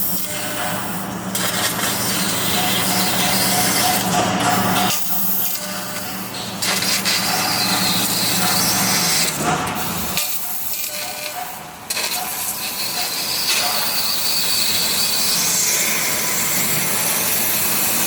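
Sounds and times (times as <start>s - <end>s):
laser cutter gas hissing: 0.0s - 18.0s.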